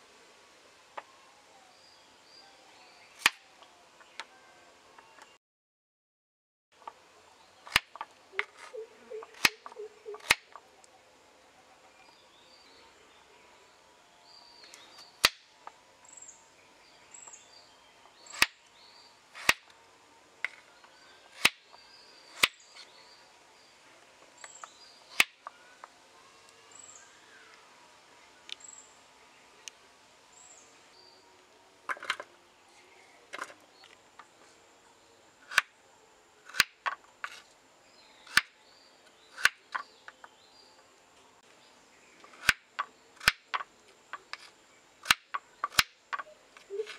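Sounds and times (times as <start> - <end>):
birds chirping: 6.8 - 19.8, 20.4 - 35.6, 36.5 - 46.9.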